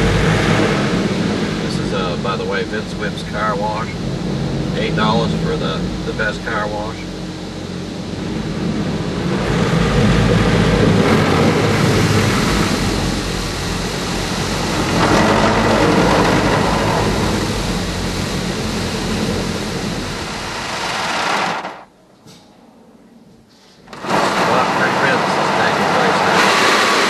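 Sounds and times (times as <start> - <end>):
car wash blowers roaring: 0.0 - 21.9, 23.8 - 27.0
low motor hum: 0.0 - 27.0.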